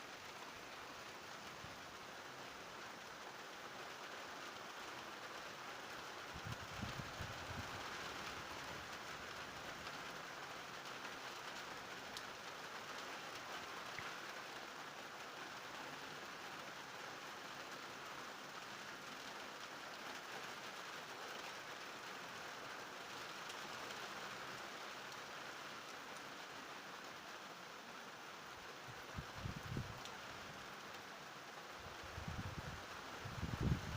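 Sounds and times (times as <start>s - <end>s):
rain hissing steadily: 0.0s - 33.9s.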